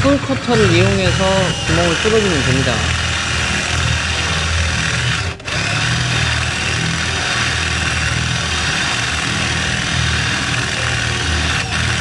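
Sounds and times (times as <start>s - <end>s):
drill with hole saw cutting wood: 0.0s - 12.0s.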